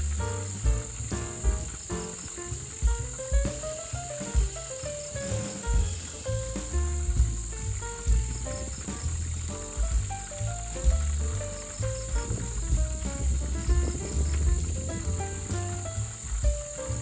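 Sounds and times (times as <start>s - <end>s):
background music with low beat: 0.0s - 17.0s
crickets trilling: 0.2s - 17.0s.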